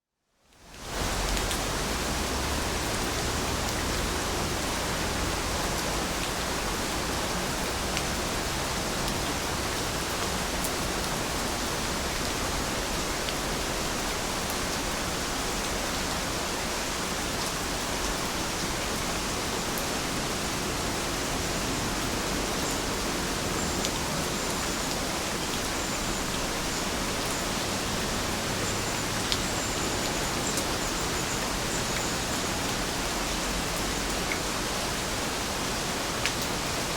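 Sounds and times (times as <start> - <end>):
steady rain: 0.4 - 36.9.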